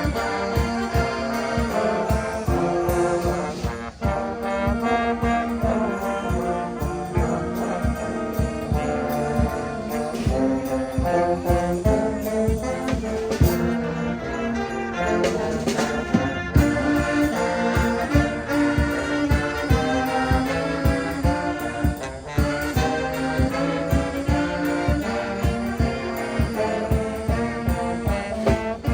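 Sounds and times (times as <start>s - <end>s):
brass music over a beat: 0.0s - 28.9s.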